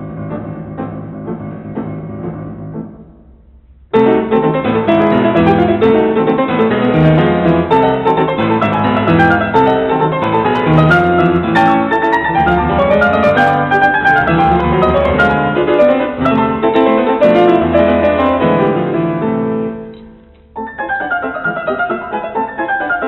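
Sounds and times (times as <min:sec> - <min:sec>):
piano background music: 0:00.0 - 0:23.0.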